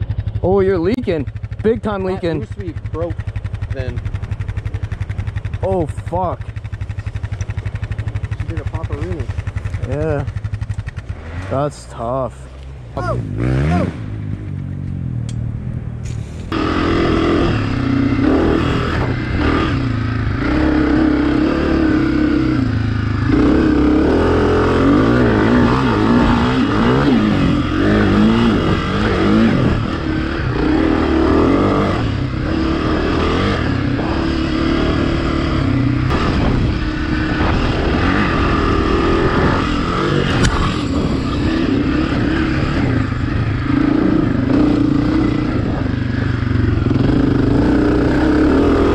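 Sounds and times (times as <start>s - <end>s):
dirt bike engine running hard: 0.0s - 48.9s.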